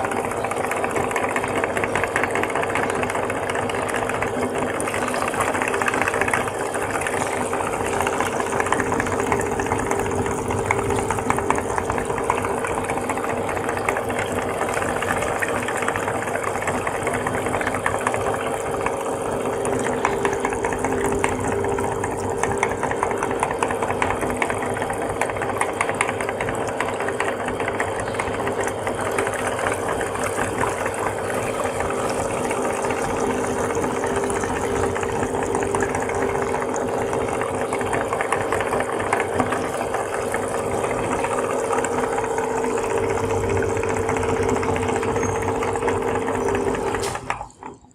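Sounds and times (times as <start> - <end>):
electric meat grinder running: 0.0 - 47.9.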